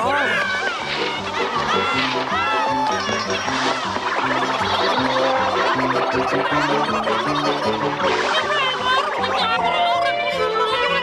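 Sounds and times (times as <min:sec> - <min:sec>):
upbeat music with bouncy bass: 0:00.0 - 0:11.0.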